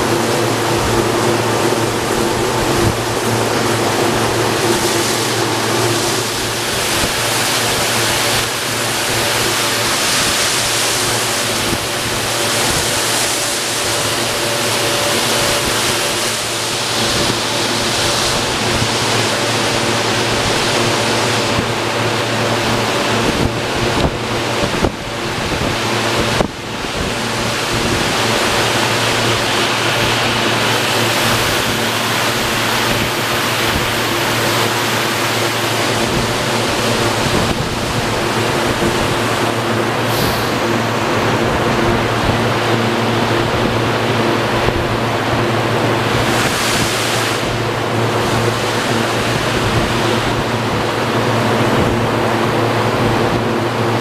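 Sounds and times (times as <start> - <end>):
machine hum: 0.0 - 54.0
rotating brushes and water spray: 0.0 - 54.0.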